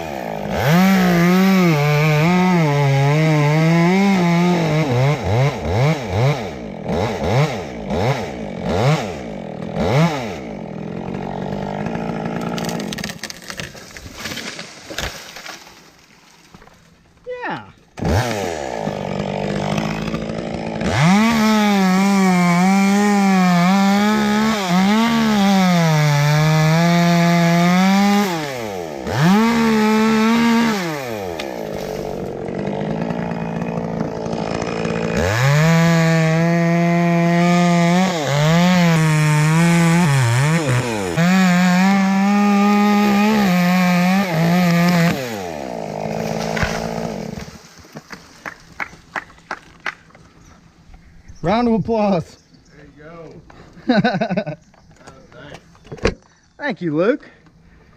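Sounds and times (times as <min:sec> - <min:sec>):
chainsaw cutting wood: 0:00.0 - 0:50.2.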